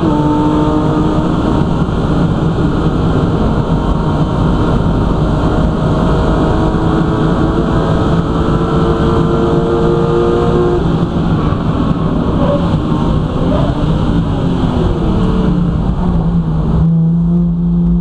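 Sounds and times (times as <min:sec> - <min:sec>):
race car engine running hard: 0:00.0 - 0:18.0.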